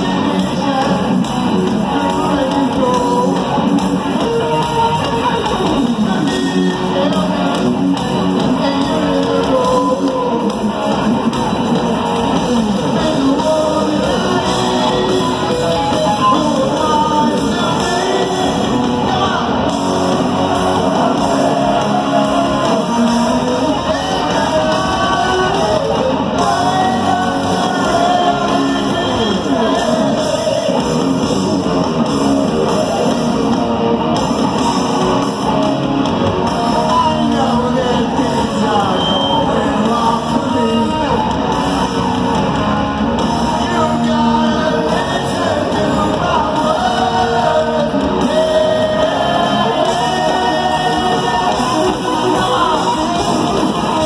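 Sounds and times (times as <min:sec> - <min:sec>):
person singing: 0:00.0 - 0:33.7, 0:36.2 - 0:42.1, 0:43.2 - 0:54.0
electric guitar: 0:00.0 - 0:54.0
live rock band playing: 0:00.0 - 0:54.0.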